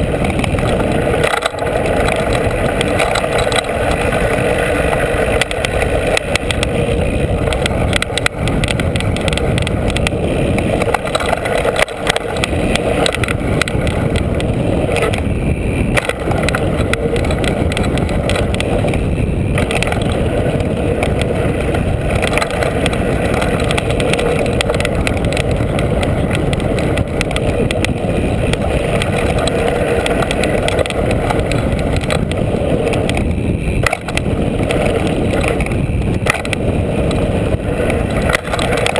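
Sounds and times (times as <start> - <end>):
bike clattering over bumps: 0.0 - 38.9
wind and tyre noise: 0.0 - 38.9.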